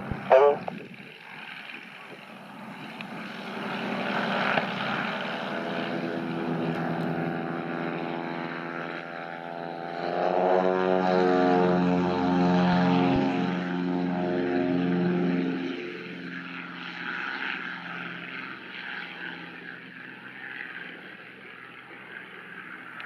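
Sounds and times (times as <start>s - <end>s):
propeller aircraft engine hum: 0.0s - 23.0s.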